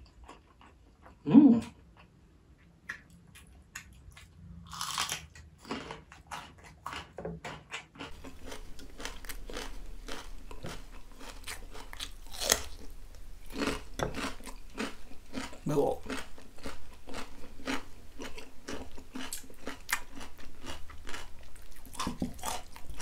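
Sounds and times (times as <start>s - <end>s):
crunchy chewing of cucumber: 3.0s - 23.0s.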